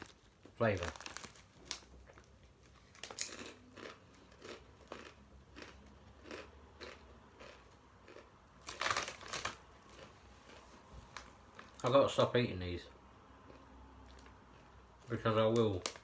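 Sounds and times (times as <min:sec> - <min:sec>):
chewing crunchy tortilla chips: 0:00.0 - 0:12.2, 0:13.4 - 0:16.0.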